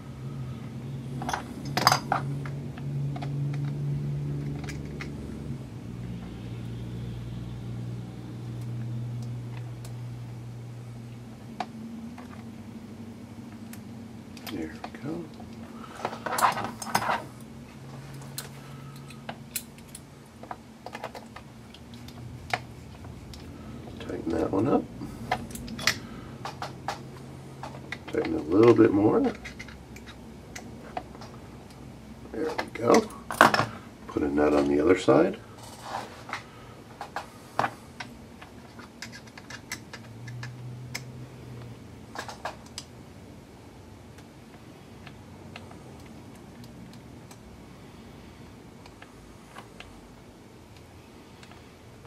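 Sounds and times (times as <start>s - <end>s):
faint low hum: 0.0s - 52.0s.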